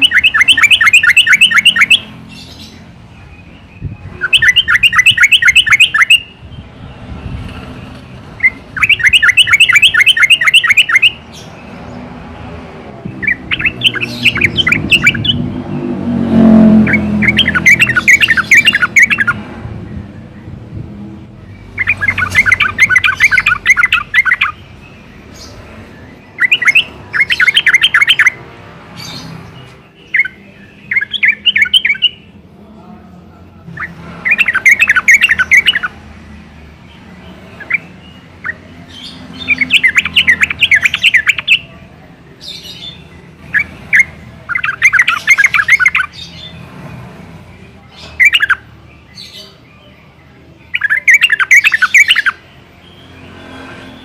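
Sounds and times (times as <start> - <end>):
bulbul chattering song: 0.0 - 7.3, 8.3 - 11.9, 13.0 - 20.6, 21.2 - 54.0.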